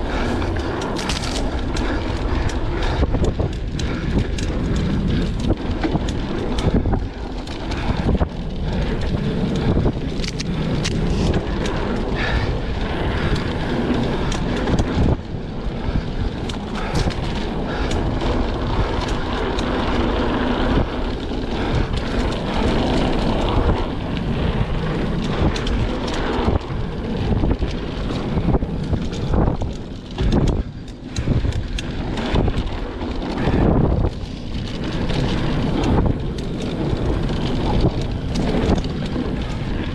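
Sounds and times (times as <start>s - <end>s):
bike clicks and rattles: 0.0s - 39.9s
tyres rolling over dirt: 0.0s - 39.9s
wind buffeting microphone: 0.0s - 39.9s.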